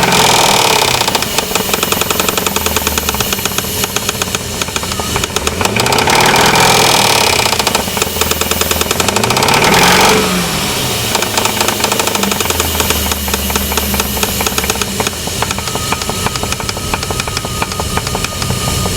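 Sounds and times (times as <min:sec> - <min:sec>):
engine revving: 0:00.0 - 0:18.9
rapid engine knocking: 0:00.0 - 0:18.9.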